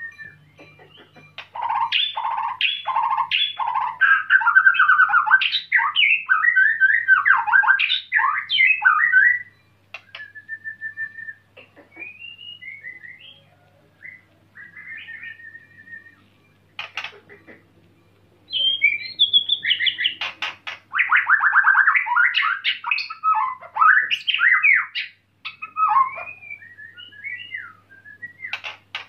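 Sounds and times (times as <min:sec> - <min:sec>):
bird singing whistles: 0:01.6 - 0:16.6, 0:18.5 - 0:29.0.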